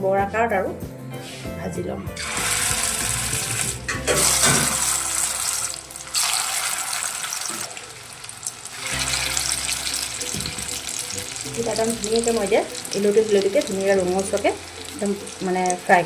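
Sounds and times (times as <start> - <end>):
fritters sizzling in oil: 2.2 - 16.0.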